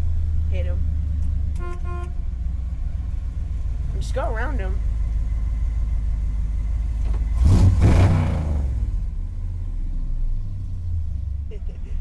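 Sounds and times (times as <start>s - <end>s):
truck engine running and revving: 0.0s - 12.0s.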